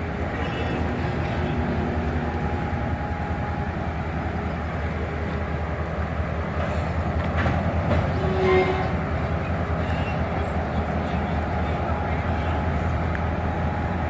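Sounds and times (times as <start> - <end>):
railroad car rolling on track: 0.0 - 14.0.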